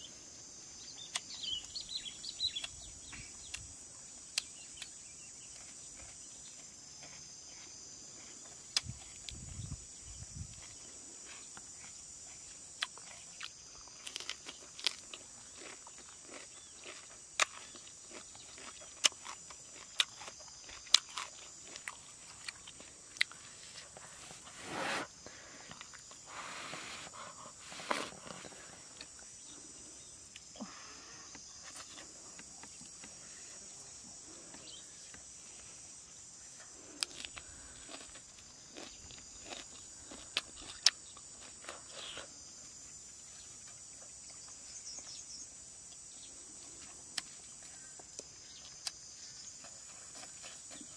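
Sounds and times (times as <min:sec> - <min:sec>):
insects buzzing: 0:00.0 - 0:50.9
crunching while eating: 0:01.0 - 0:50.9.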